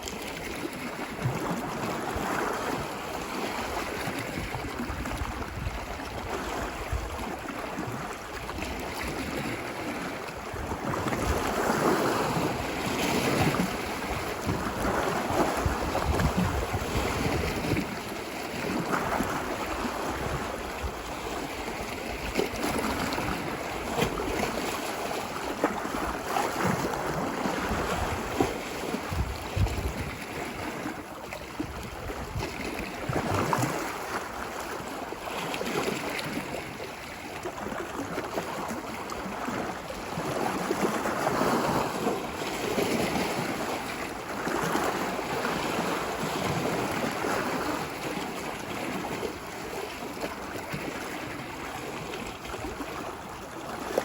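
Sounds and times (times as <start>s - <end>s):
ocean waves washing ashore: 0.0s - 54.0s.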